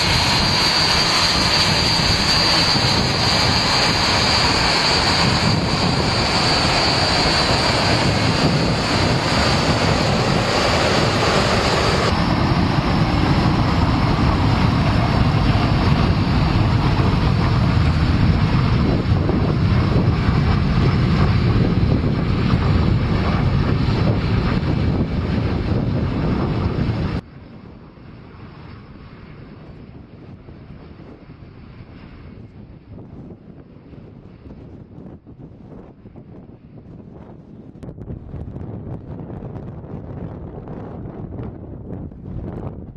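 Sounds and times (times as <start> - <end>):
jet engine roaring: 0.0 - 42.9
wind noise on microphone: 0.0 - 42.9.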